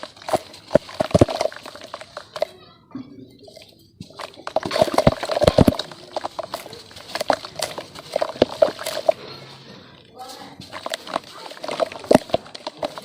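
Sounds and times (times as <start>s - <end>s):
dirt lumps cracking and crunching: 0.0s - 13.0s.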